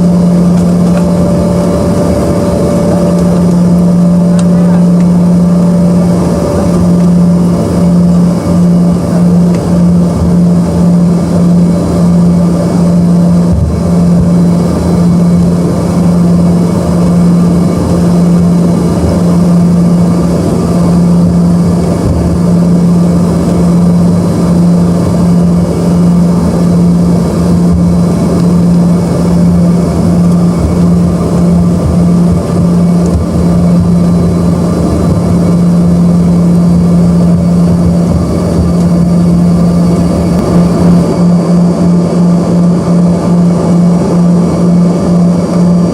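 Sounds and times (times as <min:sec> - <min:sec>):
jet engines droning in cabin: 0:00.0 - 0:45.9.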